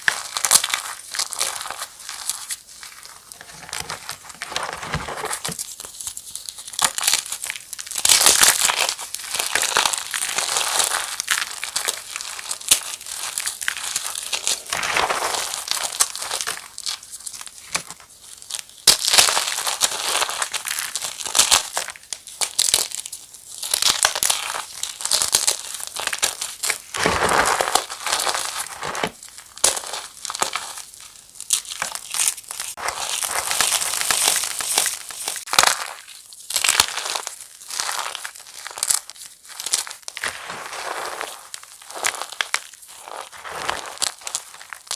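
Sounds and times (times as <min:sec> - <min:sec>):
chalk blocks crunching: 0:00.0 - 0:44.9.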